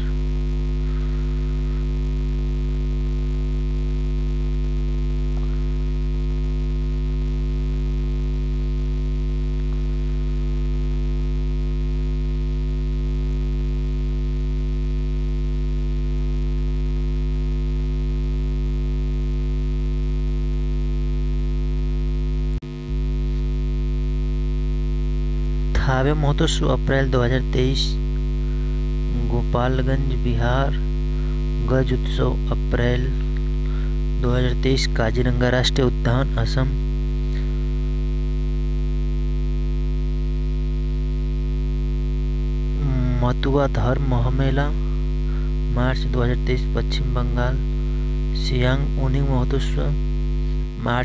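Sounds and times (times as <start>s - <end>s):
electrical mains hum: 0.0s - 51.0s.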